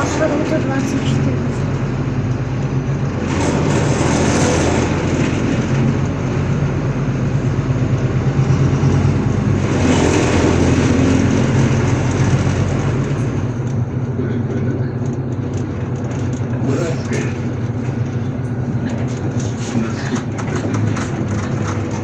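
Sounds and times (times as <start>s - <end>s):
bus diesel engine drone: 0.0s - 22.0s
road noise: 0.0s - 22.0s.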